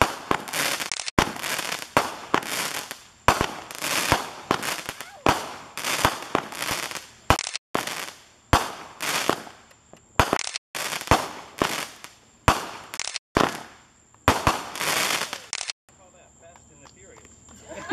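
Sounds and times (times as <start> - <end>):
firework bangs: 0.0 - 15.8
fireworks crackling and hissing: 0.0 - 17.9.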